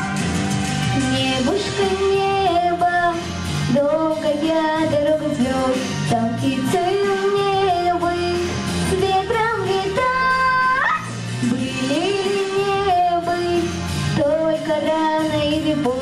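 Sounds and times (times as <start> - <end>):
instrumental accompaniment: 0.0 - 16.0
girl singing into microphone: 1.0 - 16.0.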